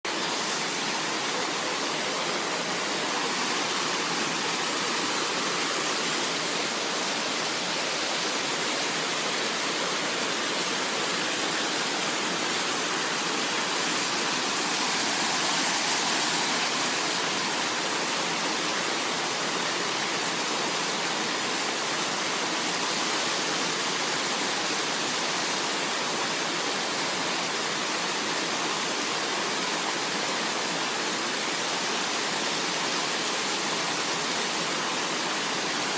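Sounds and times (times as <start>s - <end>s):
small waterfall rushing: 0.0s - 35.9s.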